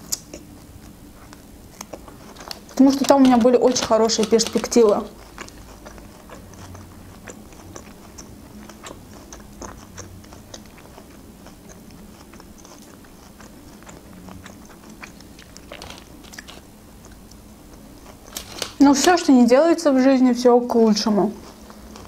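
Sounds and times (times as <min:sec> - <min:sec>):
wet chewing: 0:00.0 - 0:19.3, 0:21.0 - 0:22.0.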